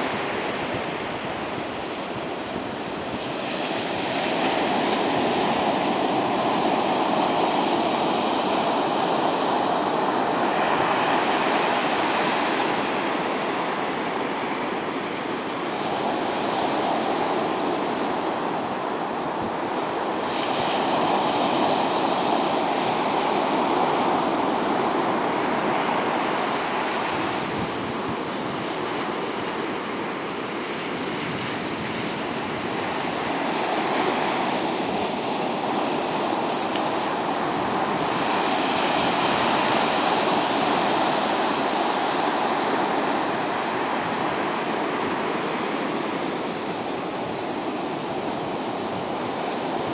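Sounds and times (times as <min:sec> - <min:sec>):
waves washing up beach: 0:00.0 - 0:49.9.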